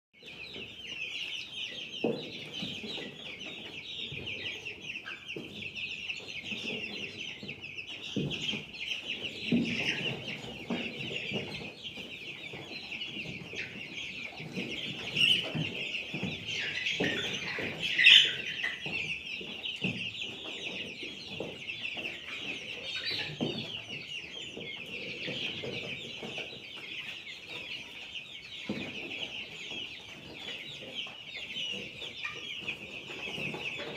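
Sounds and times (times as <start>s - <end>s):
flock of chickens calling: 0.2s - 33.9s.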